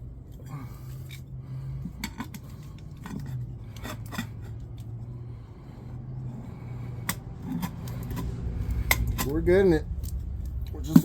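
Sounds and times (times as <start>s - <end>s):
tire bead scraping on rim: 0.5s - 11.0s.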